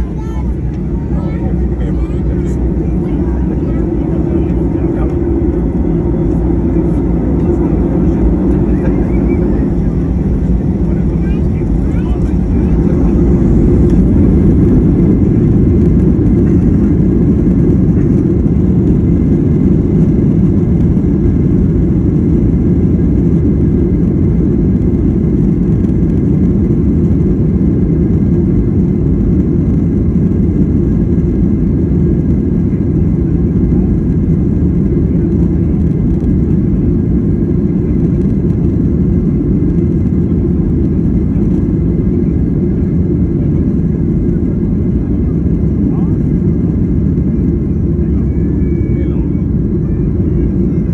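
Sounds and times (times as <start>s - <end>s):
jet engines rumbling at takeoff: 0.0s - 50.9s.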